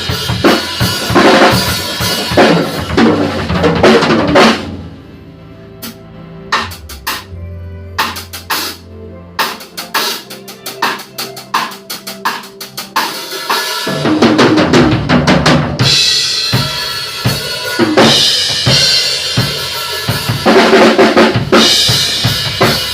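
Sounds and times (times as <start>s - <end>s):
drum beat with cymbals: 0.0s - 4.8s, 6.6s - 7.3s, 8.0s - 8.8s, 9.4s - 22.9s.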